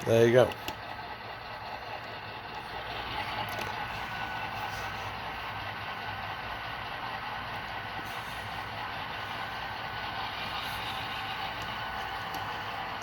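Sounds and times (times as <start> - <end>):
simulated diesel engine sound: 0.0 - 13.0.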